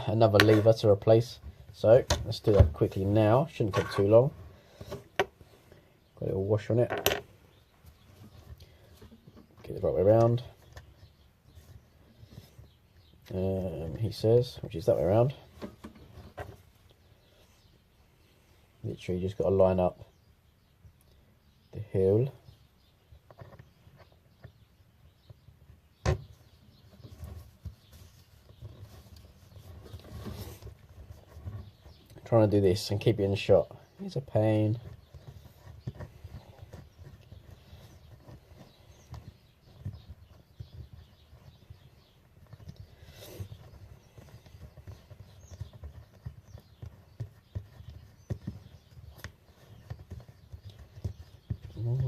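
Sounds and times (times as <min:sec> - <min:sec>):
soft rustling of parts: 0:00.0 - 0:52.0.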